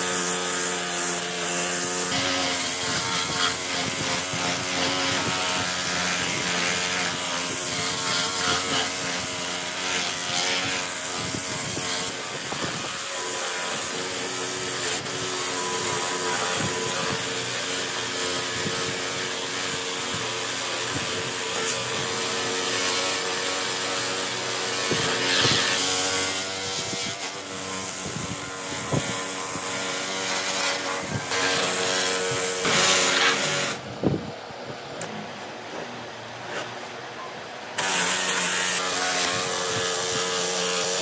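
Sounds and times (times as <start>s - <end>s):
wire brush sanding wood: 0.0s - 33.8s, 37.8s - 41.0s
electric grinder motor: 0.0s - 33.9s, 37.8s - 41.0s.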